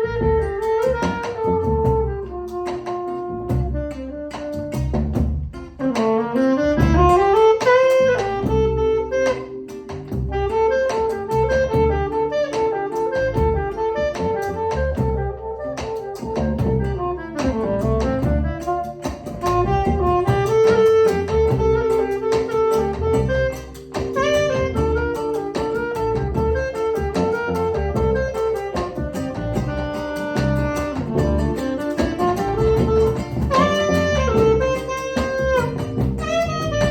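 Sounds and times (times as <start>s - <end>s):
lead melody with pitch bends: 0.0s - 36.9s
low bass line: 0.0s - 36.9s
plucked chords: 0.0s - 36.9s.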